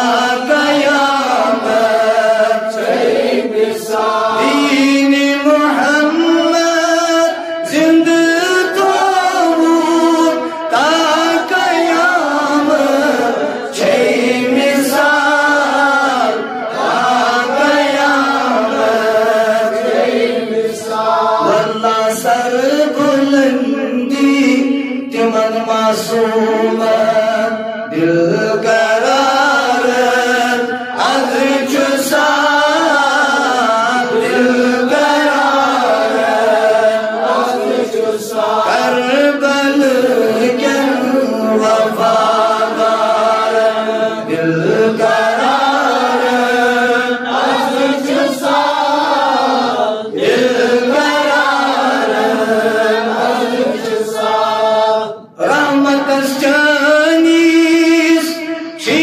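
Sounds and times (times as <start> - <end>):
man singing devotional poem: 0.0 - 59.0.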